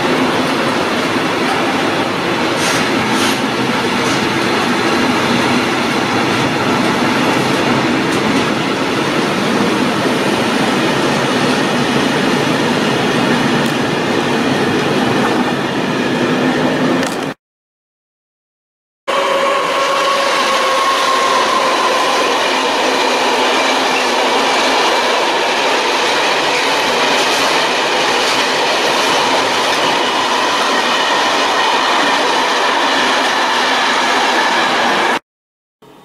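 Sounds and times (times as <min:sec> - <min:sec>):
train wheels rushing on rail: 0:00.0 - 0:17.4, 0:19.1 - 0:35.2.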